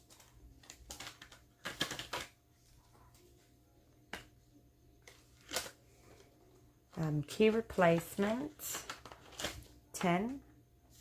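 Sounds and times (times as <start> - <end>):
banknotes rustling: 0.0 - 3.6, 5.0 - 11.0.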